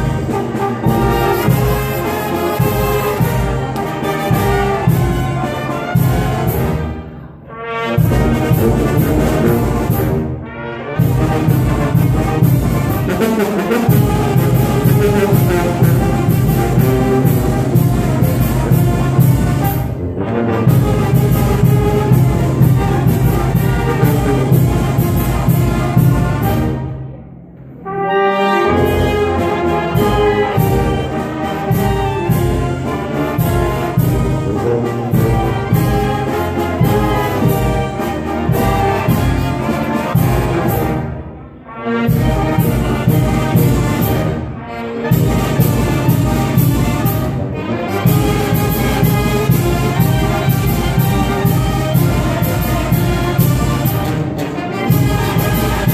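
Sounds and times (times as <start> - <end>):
brass band dance tune: 0.0 - 27.2, 27.8 - 55.9.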